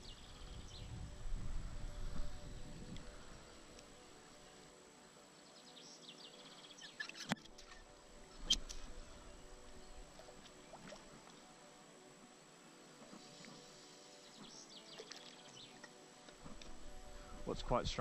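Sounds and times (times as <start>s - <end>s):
faint river: 0.0s - 18.0s.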